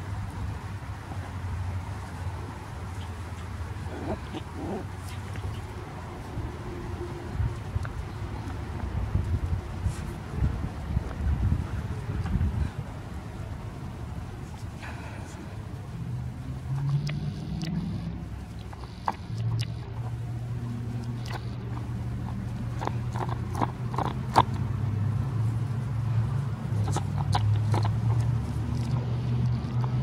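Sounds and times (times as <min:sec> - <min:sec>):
low motor hum: 0:00.0 - 0:30.0
puppies nibbling grass: 0:00.2 - 0:30.0.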